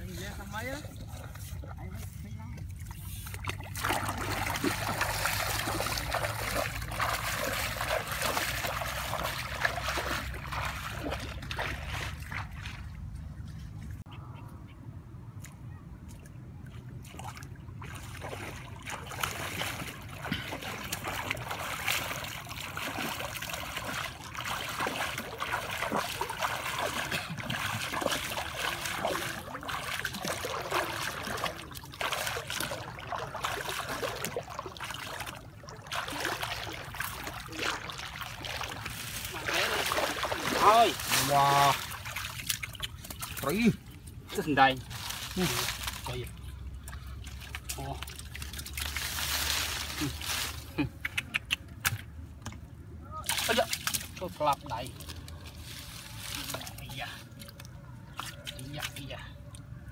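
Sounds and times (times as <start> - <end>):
water splashing and sloshing: 0.0 - 14.3, 15.3 - 59.9.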